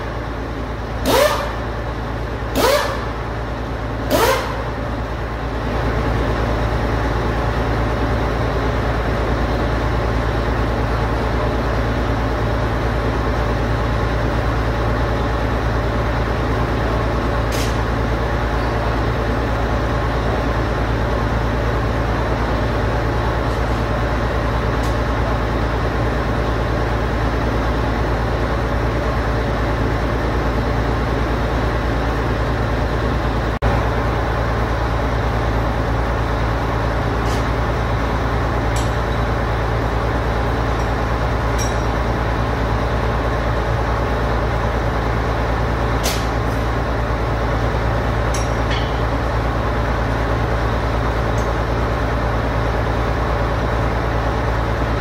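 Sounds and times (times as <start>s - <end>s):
machinery droning: 0.0s - 55.0s.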